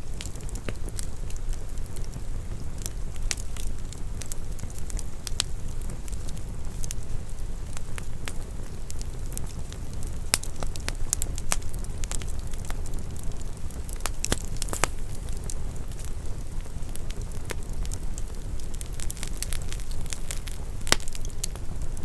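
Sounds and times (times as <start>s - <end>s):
fire crackling and popping: 0.0s - 22.0s
flames rumbling: 0.0s - 22.0s.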